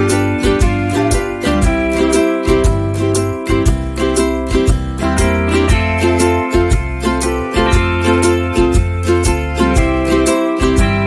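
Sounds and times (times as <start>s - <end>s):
acoustic guitar music with beat: 0.0s - 11.0s.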